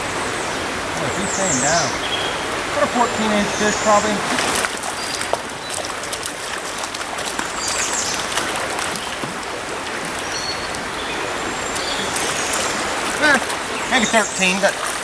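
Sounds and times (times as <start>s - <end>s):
river water running over rocks: 0.0s - 15.0s.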